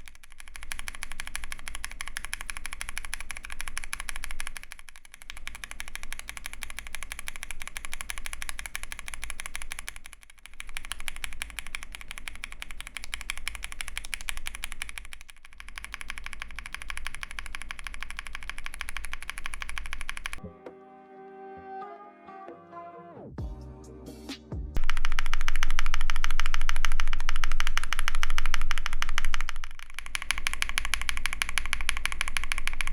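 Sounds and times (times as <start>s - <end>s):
mechanical keyboard typing: 0.0s - 20.4s, 24.8s - 32.9s.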